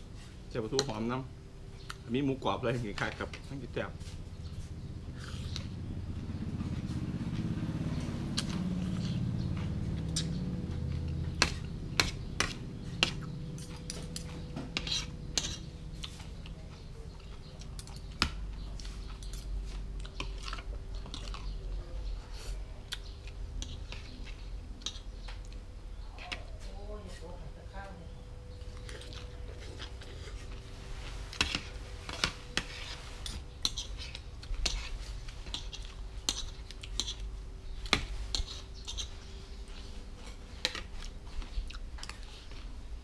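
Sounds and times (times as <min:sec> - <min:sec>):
chewing: 0:04.7 - 0:26.6, 0:28.6 - 0:43.0.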